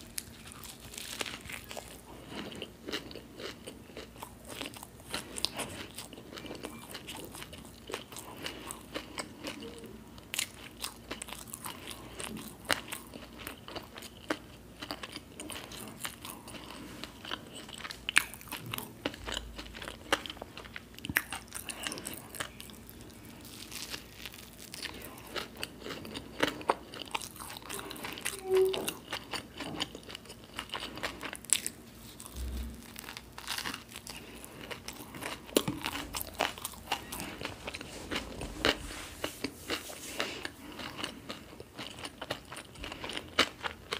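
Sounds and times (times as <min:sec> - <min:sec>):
crisp crunching and chewing: 0:00.0 - 0:43.9.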